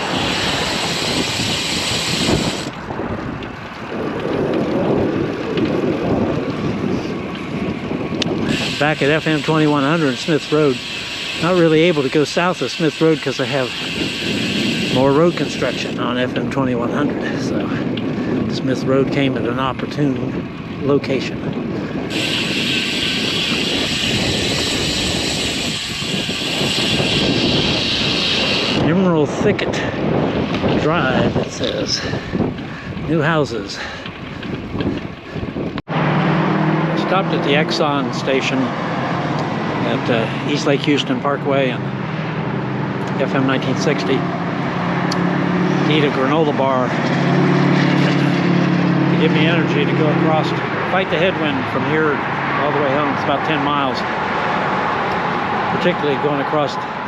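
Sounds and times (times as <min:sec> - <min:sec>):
road traffic rumble: 0:00.0 - 0:57.0
wind rushing over microphone: 0:00.0 - 0:57.0.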